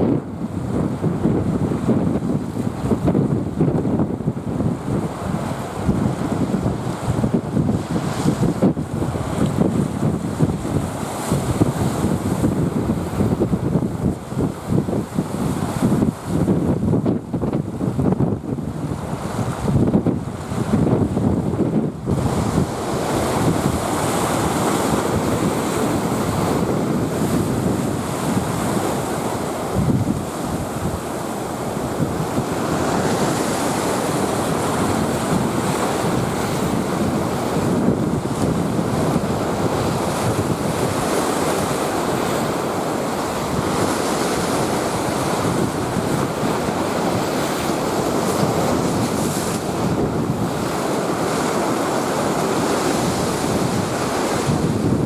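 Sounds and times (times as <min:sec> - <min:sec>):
rough sea waves breaking on beach: 0:00.0 - 0:55.0
wind buffeting microphone: 0:00.0 - 0:55.0.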